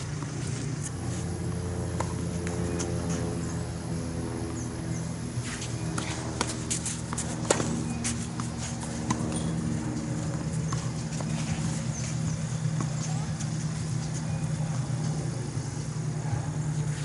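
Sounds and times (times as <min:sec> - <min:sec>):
rackets striking tennis ball: 0:00.0 - 0:03.8, 0:05.2 - 0:16.2
tennis ball bouncing: 0:00.0 - 0:04.0, 0:05.2 - 0:17.0
steady low hum: 0:00.0 - 0:17.0.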